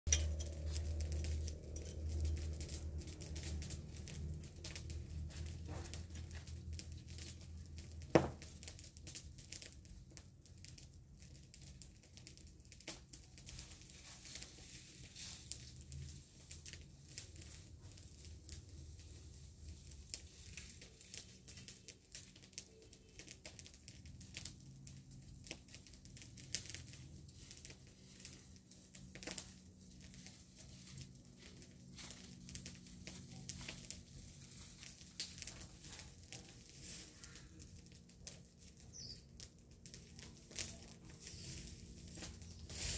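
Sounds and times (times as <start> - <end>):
dry grass and leaves crackling: 0.1 - 42.9.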